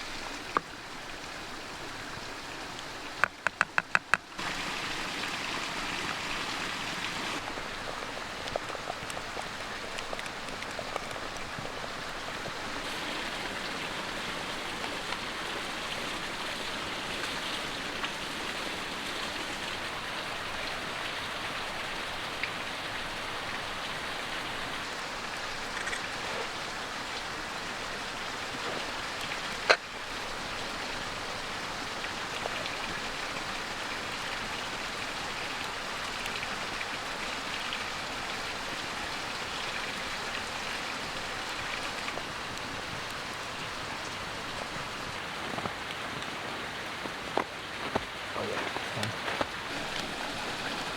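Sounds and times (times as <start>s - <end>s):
creek rushing and babbling: 0.0s - 50.9s.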